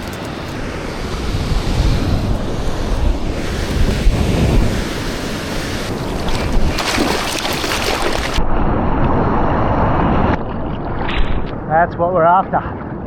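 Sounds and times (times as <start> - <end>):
ocean surf rushing: 0.0 - 11.8
wind buffeting microphone: 0.0 - 13.0.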